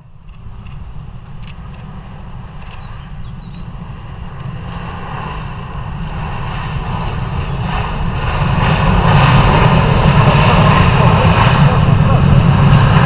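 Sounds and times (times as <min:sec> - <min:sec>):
jet airliner engine whine: 0:00.0 - 0:13.0.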